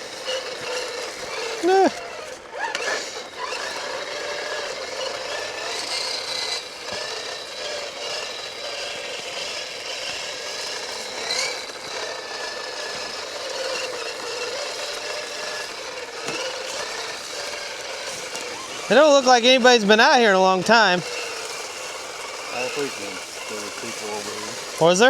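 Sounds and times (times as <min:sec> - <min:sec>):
rc truck motors whining: 0:00.0 - 0:25.0
trucks rattling and scraping: 0:00.0 - 0:25.0.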